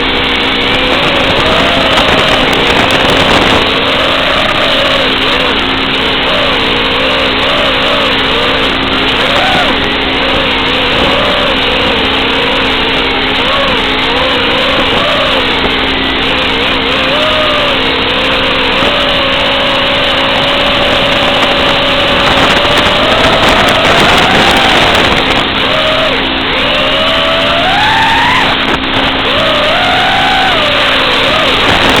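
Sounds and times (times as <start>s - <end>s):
drone motors and propellers whining: 0.0s - 32.0s.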